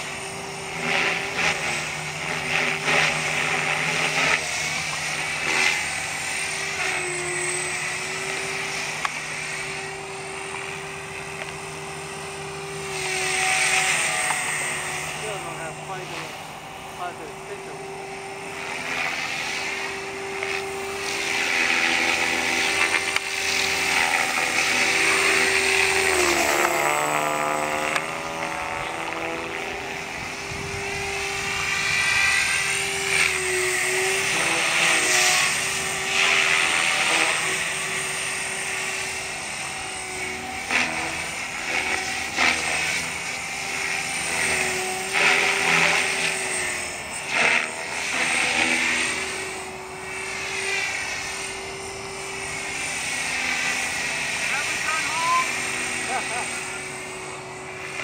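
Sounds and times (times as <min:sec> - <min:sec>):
helicopter motor whine: 0:00.0 - 0:58.0
rotor buzz: 0:00.0 - 0:58.0.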